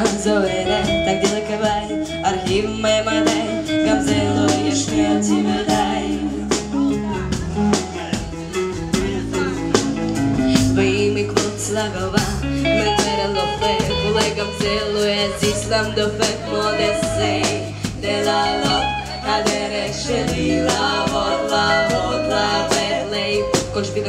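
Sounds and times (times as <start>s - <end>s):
woman singing: 0.0s - 7.0s, 10.4s - 24.0s
electric guitar: 0.0s - 24.0s
low bass notes: 0.0s - 24.0s
steady beat: 0.3s - 24.0s.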